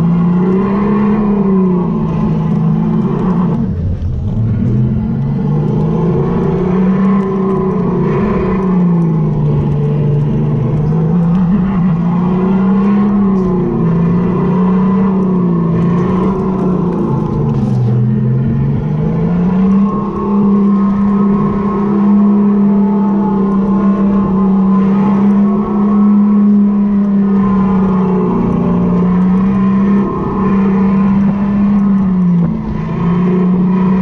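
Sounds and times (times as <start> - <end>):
electric go-kart motor whining: 0.0 - 34.0.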